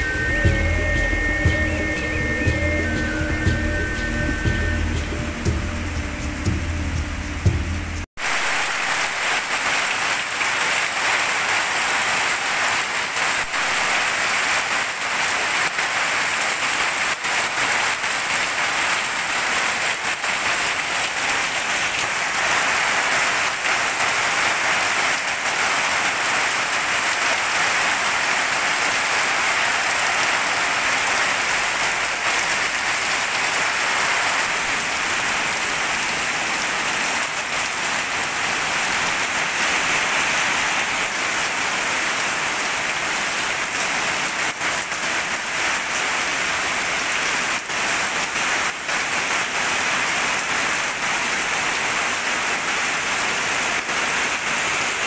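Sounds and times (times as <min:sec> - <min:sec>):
heavy rain on wet ground: 0:00.0 - 0:55.0.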